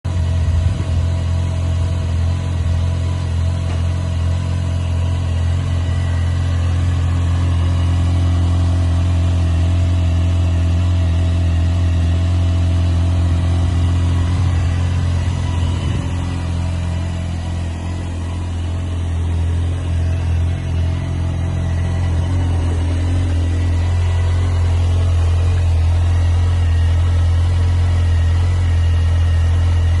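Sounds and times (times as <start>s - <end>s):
motorcycle engine droning: 0.0s - 30.0s.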